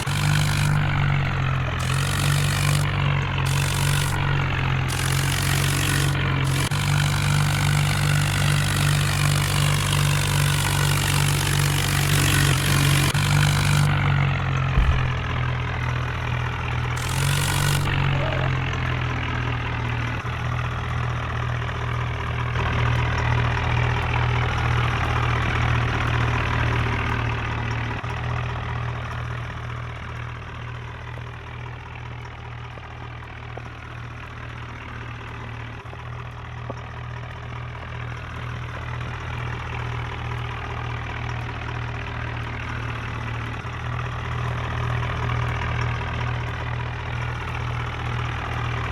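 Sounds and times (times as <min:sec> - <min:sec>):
tractor diesel engine droning: 0:00.0 - 0:48.9.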